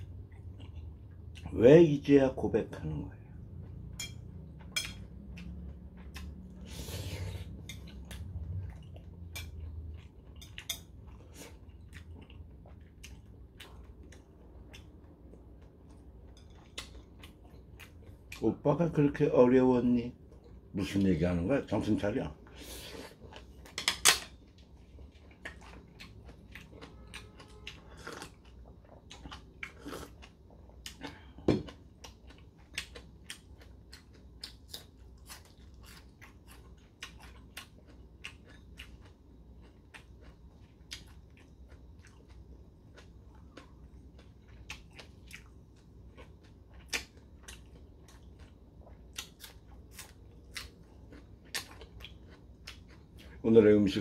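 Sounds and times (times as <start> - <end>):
person chewing food: 0.0 - 1.5, 3.3 - 18.5, 22.5 - 53.4.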